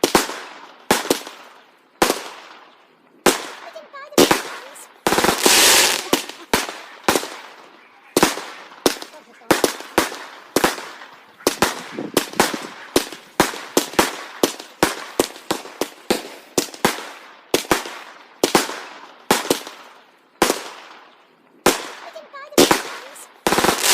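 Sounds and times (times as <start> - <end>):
fireworks banging: 0.0 - 23.9.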